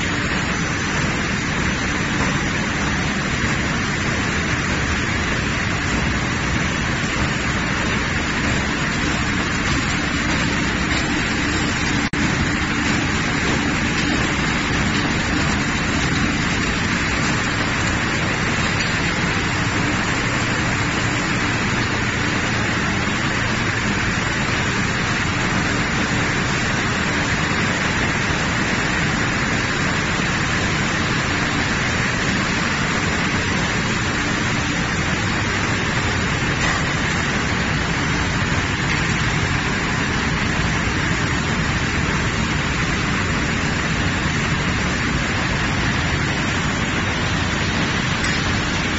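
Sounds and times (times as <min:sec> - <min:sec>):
factory processing line din: 0:00.0 - 0:48.9.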